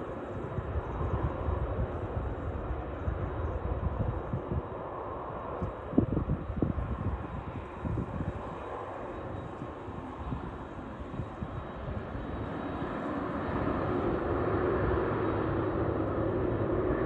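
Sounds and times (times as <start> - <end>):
jet airliner engine noise: 0.0 - 17.0.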